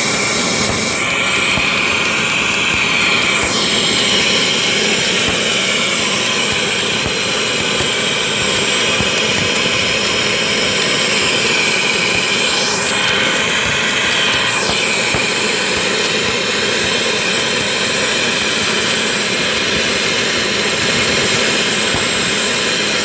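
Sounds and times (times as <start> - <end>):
constant high whine: 0.0 - 23.0
welding machine hiss: 0.0 - 23.0.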